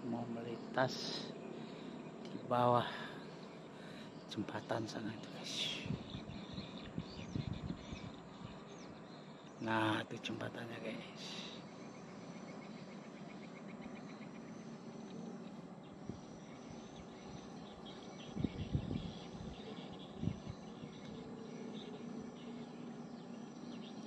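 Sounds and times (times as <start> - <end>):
faint low hum: 0.0 - 24.0
insects chirping: 0.0 - 24.0.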